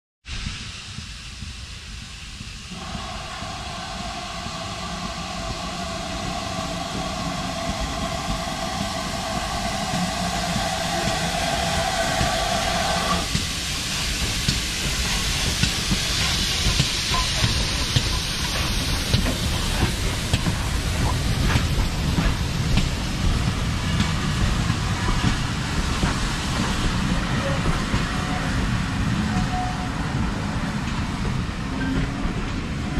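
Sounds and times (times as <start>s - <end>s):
steady steam hiss: 0.3s - 32.9s
steam locomotive approaching: 0.3s - 32.9s
train wheels rumbling on rails: 0.3s - 32.9s.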